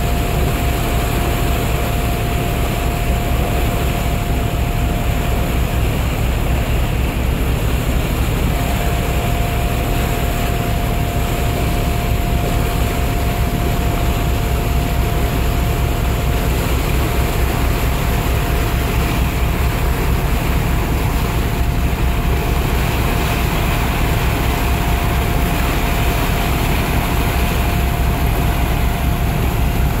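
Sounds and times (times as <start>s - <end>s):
boat engine droning: 0.0s - 30.0s
thin steady whine: 0.0s - 30.0s.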